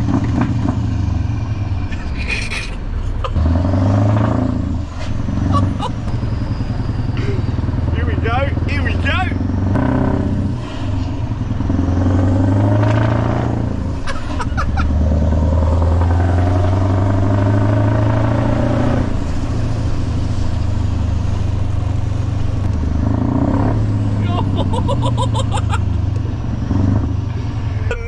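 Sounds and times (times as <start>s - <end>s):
truck engine accelerating hard: 0.0s - 28.0s.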